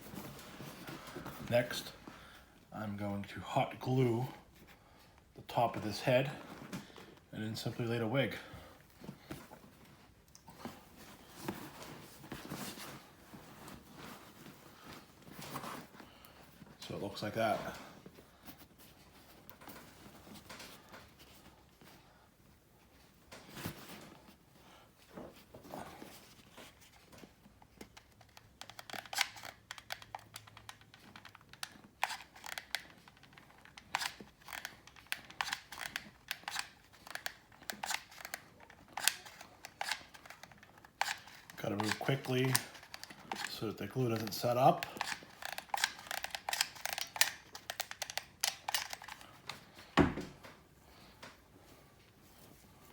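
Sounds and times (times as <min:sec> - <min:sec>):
rubber mask rustling: 0:00.0 - 0:52.9.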